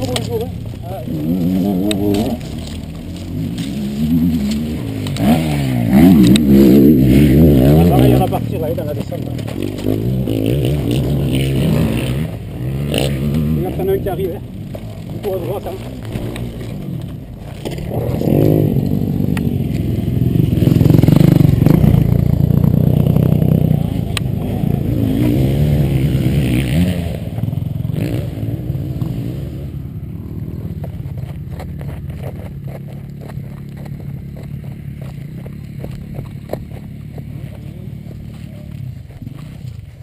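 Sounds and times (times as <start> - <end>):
motocross bike passing: 0.0 - 40.0.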